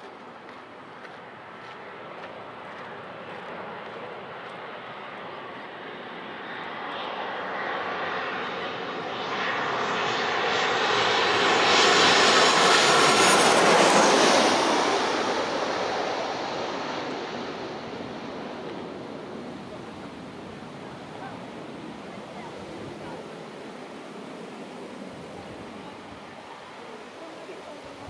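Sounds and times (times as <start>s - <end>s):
airliner passing overhead: 0.0s - 28.0s.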